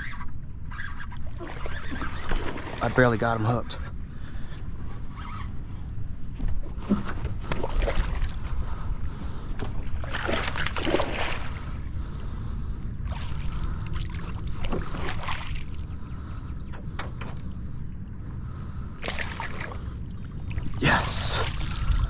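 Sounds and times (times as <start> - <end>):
steady low rumble: 2.8 - 22.0.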